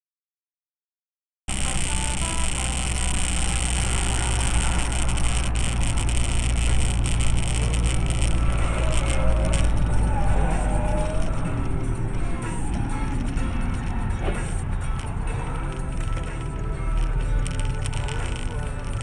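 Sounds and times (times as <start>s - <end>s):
car running hum from inside: 1.5s - 19.0s.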